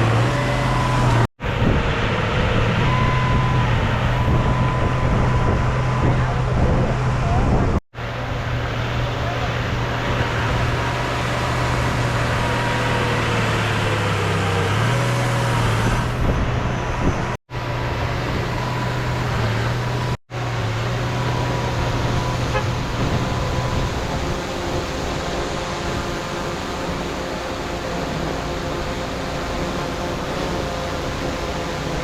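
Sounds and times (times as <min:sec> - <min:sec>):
heavy diesel machinery running: 0:00.0 - 0:32.0.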